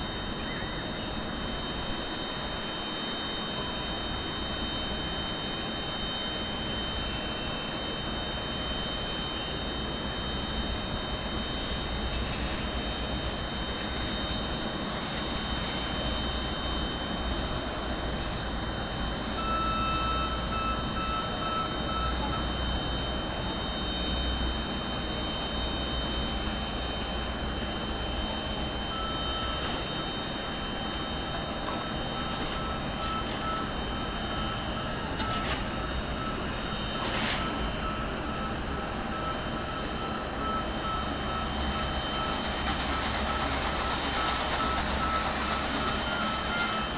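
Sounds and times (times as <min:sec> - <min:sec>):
jet engines droning: 0:00.0 - 0:46.9.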